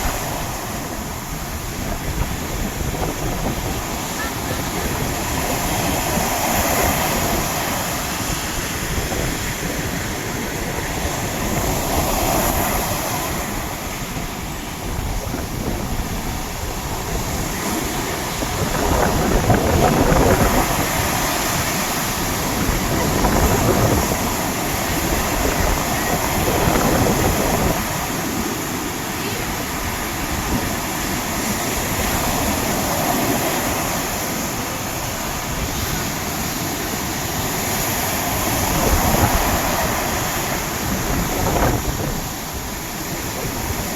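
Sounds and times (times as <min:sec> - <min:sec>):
sea waves breaking on shore: 0:00.0 - 0:43.9.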